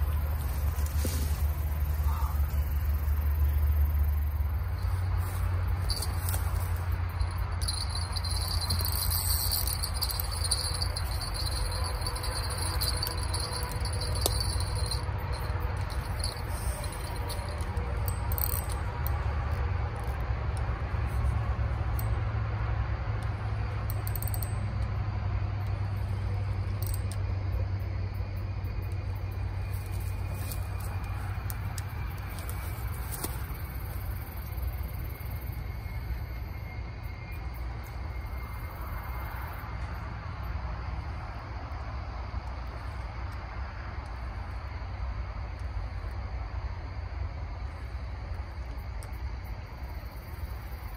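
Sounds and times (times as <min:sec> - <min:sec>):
insects trilling: 0:00.0 - 0:20.2, 0:25.6 - 0:50.9
steady low rumble: 0:00.0 - 0:50.9.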